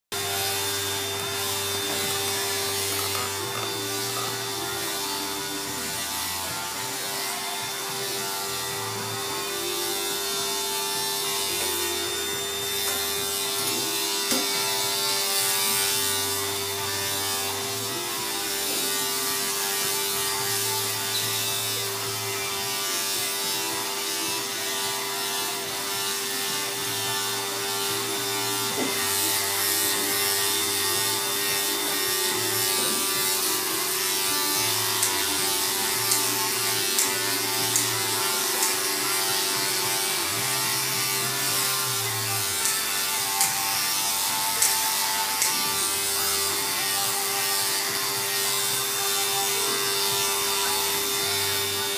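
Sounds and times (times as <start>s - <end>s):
electric clippers humming: 0.1s - 51.9s.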